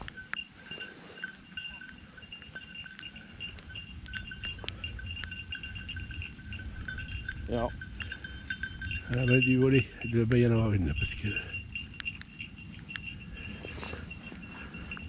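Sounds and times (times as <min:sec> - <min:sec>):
dog bell jingling: 0:00.0 - 0:15.0.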